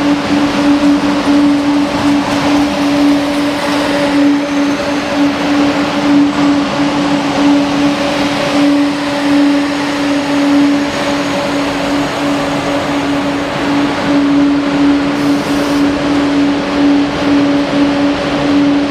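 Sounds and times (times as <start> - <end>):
loud rushing noise: 0.0 - 18.9
train running with steady hum: 0.0 - 18.9.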